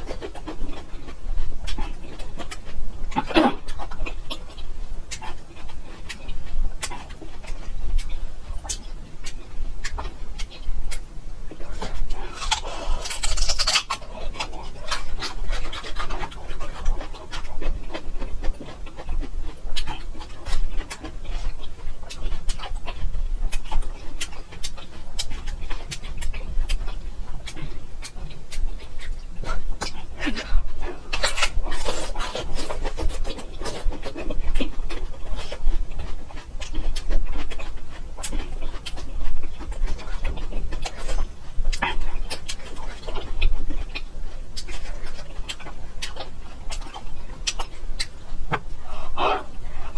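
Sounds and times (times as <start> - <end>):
crunchy chewing: 0.0 - 49.9.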